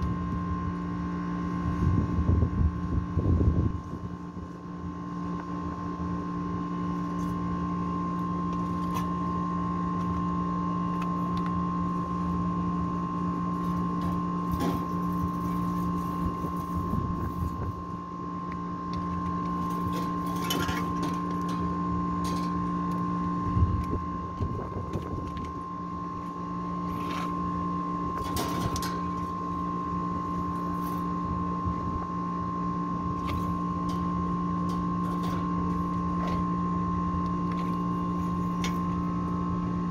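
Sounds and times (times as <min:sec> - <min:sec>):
high whine: 0:00.0 - 0:39.9
machinery hum: 0:00.0 - 0:39.9.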